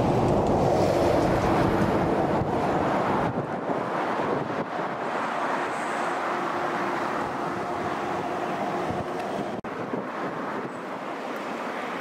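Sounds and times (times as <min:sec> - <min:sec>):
train rumbling: 0:00.0 - 0:10.2
wind buffeting microphone: 0:00.0 - 0:11.1.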